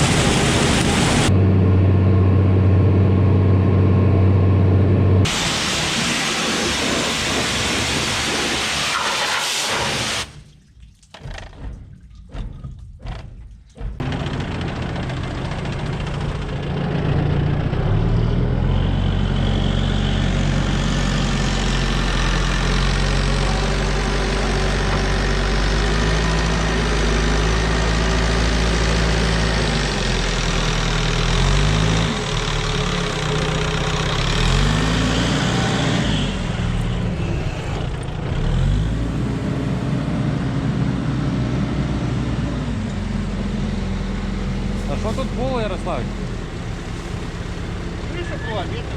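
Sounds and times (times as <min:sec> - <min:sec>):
tractor engine running: 0:00.0 - 0:08.8, 0:11.1 - 0:48.9.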